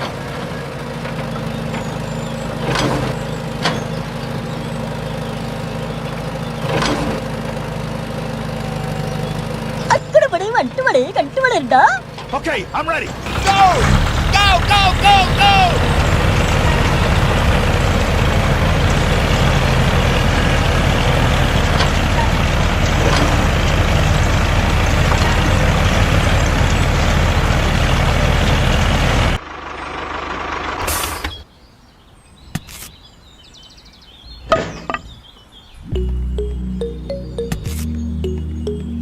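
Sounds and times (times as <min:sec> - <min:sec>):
tractor engine running: 0:00.0 - 0:31.3, 0:35.9 - 0:39.0.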